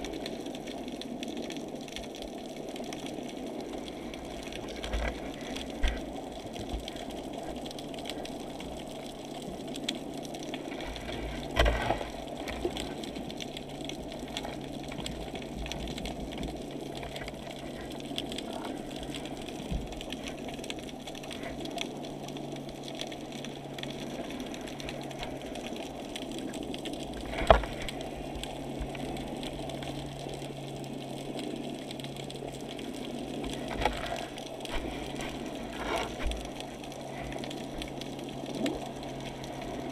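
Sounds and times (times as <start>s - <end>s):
low steady hum: 0.0s - 39.9s
muffled underwater water wash: 0.0s - 39.9s.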